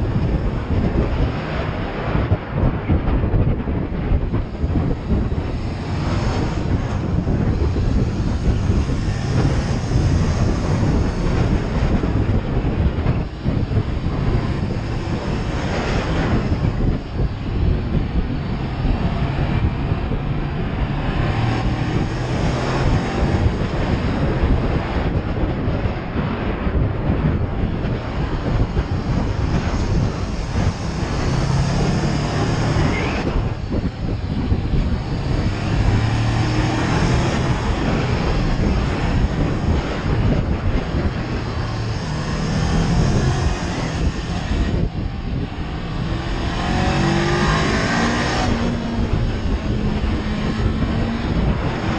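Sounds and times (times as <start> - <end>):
motorcycle engine revving: 0.0 - 51.9
wind noise on microphone: 0.0 - 51.9.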